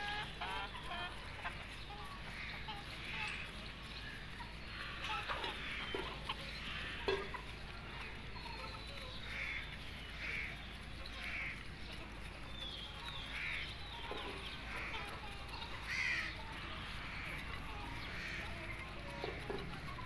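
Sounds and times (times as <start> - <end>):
beaks tapping dish: 0.0 - 20.0
chicks peeping: 0.0 - 20.0.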